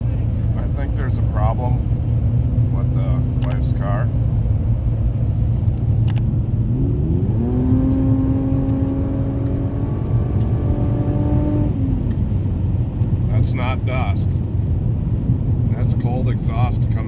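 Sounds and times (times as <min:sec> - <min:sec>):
car engine drone accelerating: 0:00.0 - 0:17.0.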